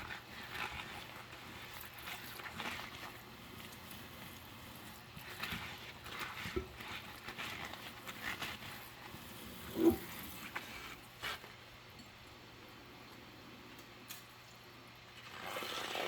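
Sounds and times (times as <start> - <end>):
gloved hands scrubbing wet dishes: 0.0 - 12.4, 15.0 - 16.0.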